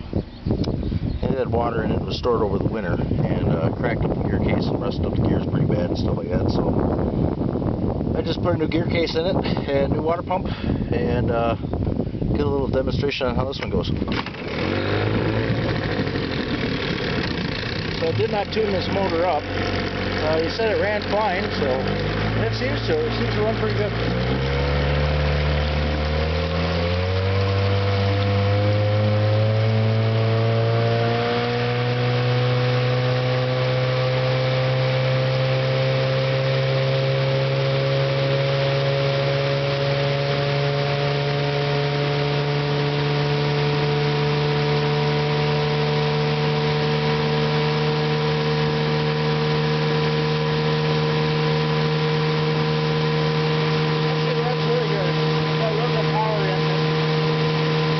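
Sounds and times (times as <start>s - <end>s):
outboard motor running: 0.0s - 57.9s.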